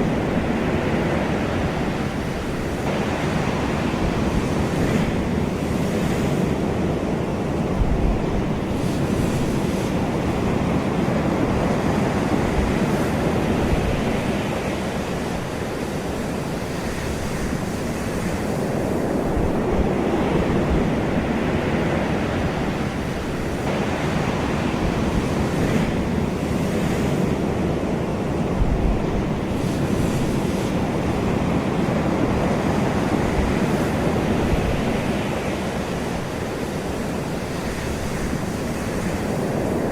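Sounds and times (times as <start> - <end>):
ocean waves washing on shore: 0.0 - 39.9
wind buffeting microphone: 0.0 - 39.9.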